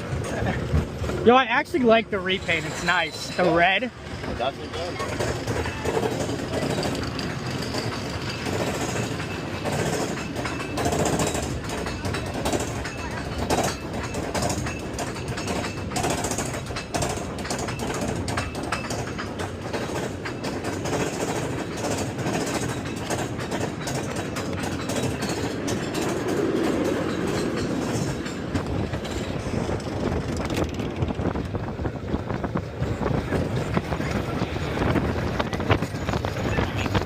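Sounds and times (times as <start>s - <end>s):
rapid clicks and clanks: 0.0s - 37.0s
roller coaster car clattering on track: 0.0s - 37.0s.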